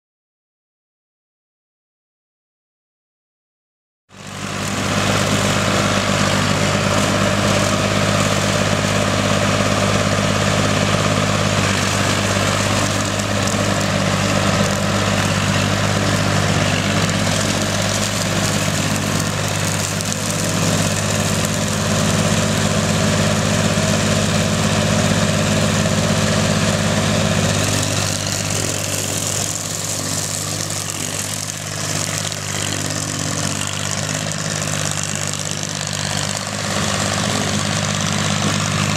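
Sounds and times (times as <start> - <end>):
tractor engine droning: 4.1 - 38.9.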